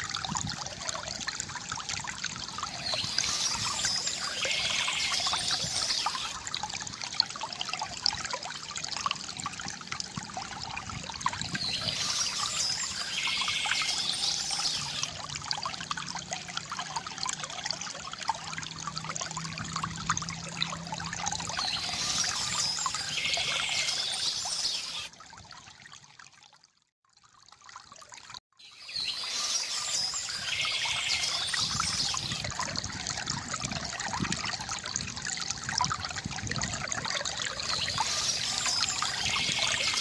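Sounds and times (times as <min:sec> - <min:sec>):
fountain water trickling: 0:00.0 - 0:40.0.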